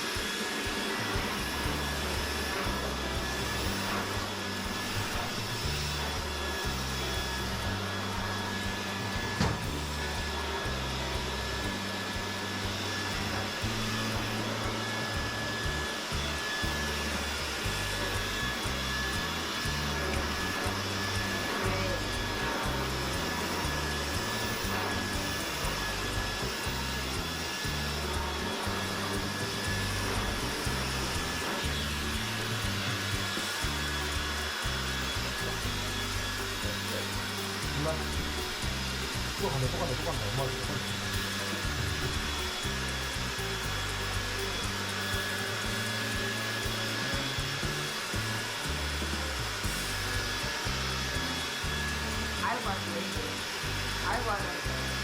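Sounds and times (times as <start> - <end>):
background music with bass line: 0.0 - 55.0
vacuum cleaner running: 0.0 - 55.0.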